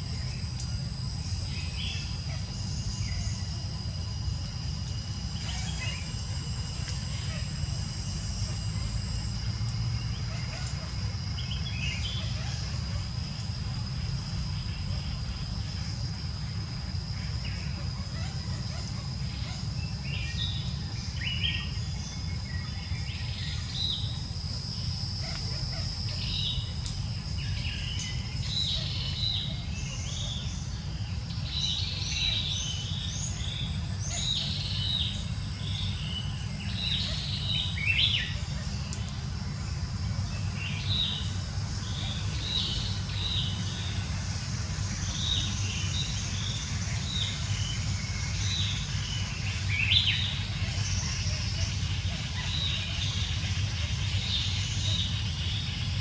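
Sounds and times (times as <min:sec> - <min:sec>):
thin high whine: 0:00.0 - 0:56.0.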